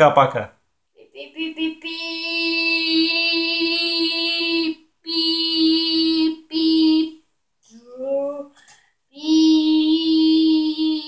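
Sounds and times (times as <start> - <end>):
child singing a high note: 1.0 - 8.5, 9.1 - 11.0.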